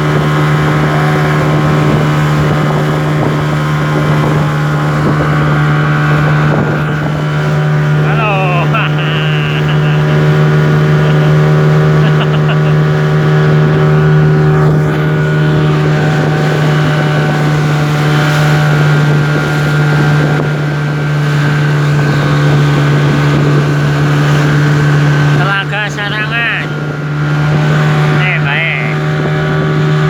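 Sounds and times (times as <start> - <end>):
speedboat engine running: 0.0 - 30.0
water and wind rushing: 0.0 - 30.0.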